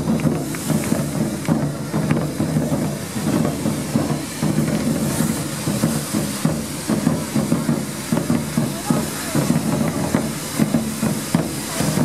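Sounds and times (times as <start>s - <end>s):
fireworks hissing and crackling: 0.0s - 12.0s.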